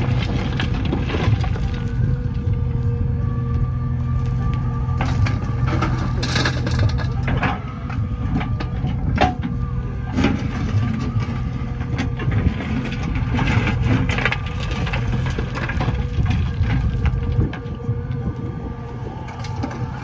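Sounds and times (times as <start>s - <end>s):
diesel engine running: 0.0s - 20.0s
soil and stones crunching: 0.0s - 20.0s.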